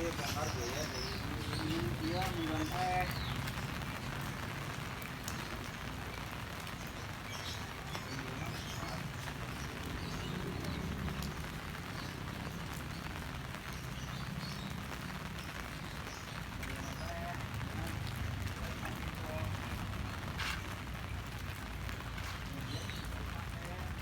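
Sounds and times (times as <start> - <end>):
heavy rain falling: 0.0 - 24.0
low rumble of wind: 0.0 - 24.0.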